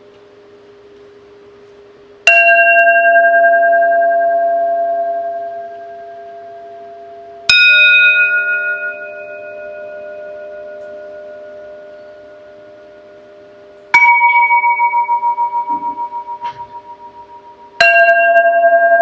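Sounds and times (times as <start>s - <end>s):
singing bowls ringing: 2.2s - 19.0s.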